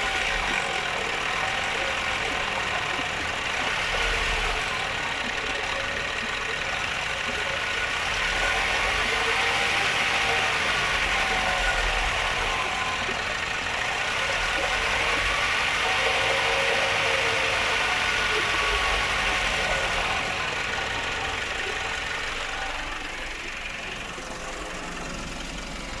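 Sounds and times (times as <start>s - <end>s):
diesel engine hiss: 0.0s - 26.0s.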